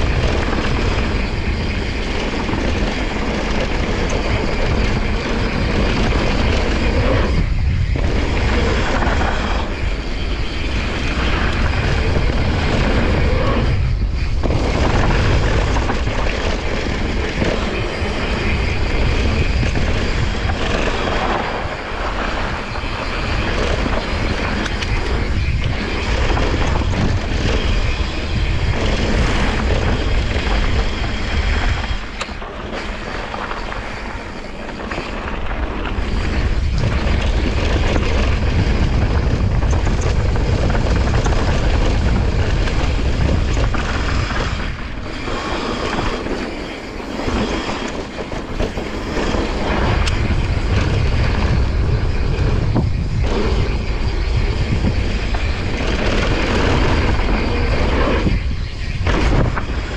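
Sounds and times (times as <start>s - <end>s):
bike rattling over bumps: 0.0s - 59.9s
wind on microphone: 0.0s - 59.9s.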